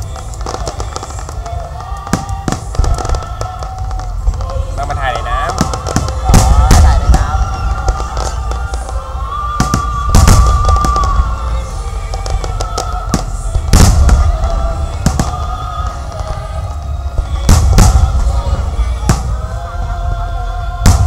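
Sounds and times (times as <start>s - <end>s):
fireworks booming and crackling: 0.0s - 21.0s
music playing: 0.0s - 21.0s.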